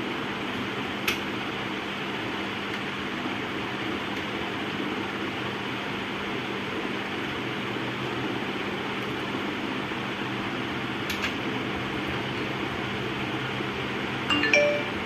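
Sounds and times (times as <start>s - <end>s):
fan noise with low hum: 0.0s - 15.0s.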